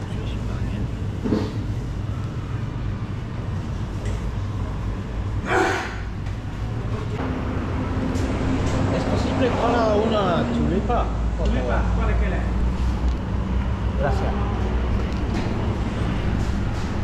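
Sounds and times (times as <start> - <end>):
mid-pitched hum: 0.0 - 17.0.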